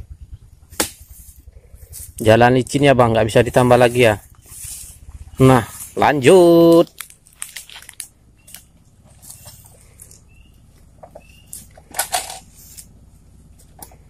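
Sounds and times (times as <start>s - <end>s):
motorbike knocking and creaking: 0.0s - 7.0s, 8.2s - 14.0s.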